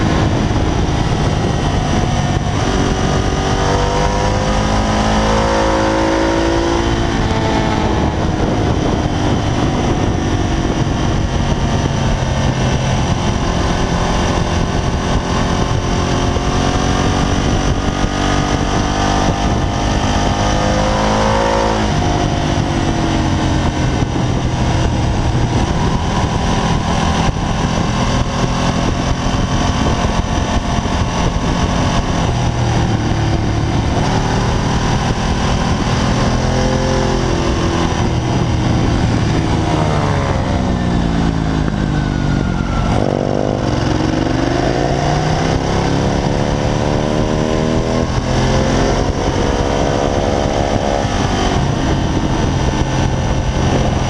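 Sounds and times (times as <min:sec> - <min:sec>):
motorcycle engine at high revs: 0:00.0 - 0:54.0
wind rush: 0:00.0 - 0:54.0.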